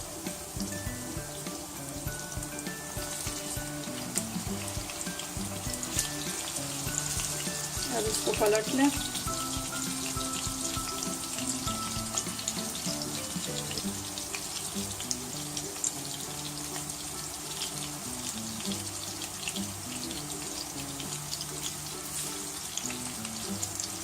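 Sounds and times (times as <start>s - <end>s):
background music sustained notes: 0.0s - 24.0s
patties sizzling in hot oil: 0.0s - 24.0s.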